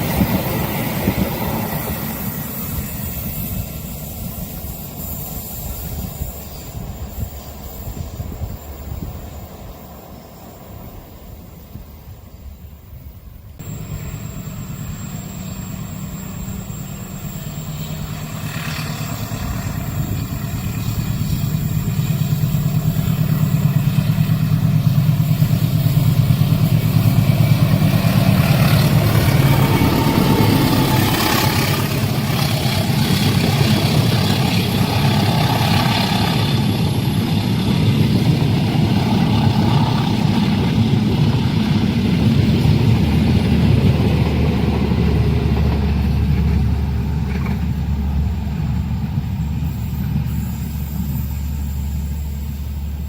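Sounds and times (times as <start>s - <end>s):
train passing: 0.0s - 53.0s
train wheels on rails: 0.0s - 53.0s.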